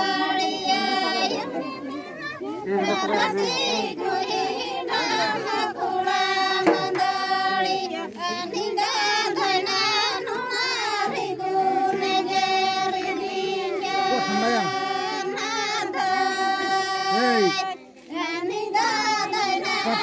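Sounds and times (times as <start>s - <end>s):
women singing in unison: 0.0s - 20.0s.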